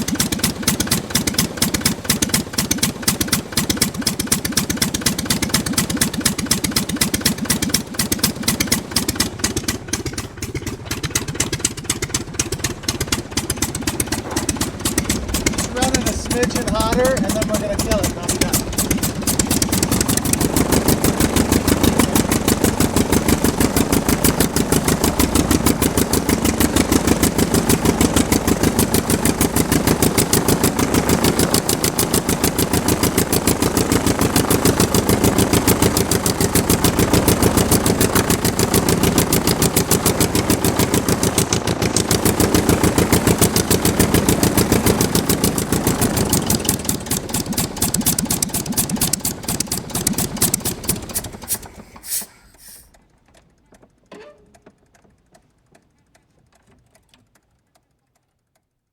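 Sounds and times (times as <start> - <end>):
aircraft piston engine running: 0.0 - 52.9.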